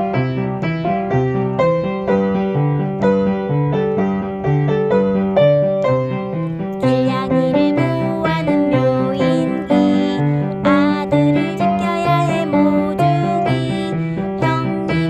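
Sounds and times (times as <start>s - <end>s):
piano-like keyboard music: 0.0s - 15.0s.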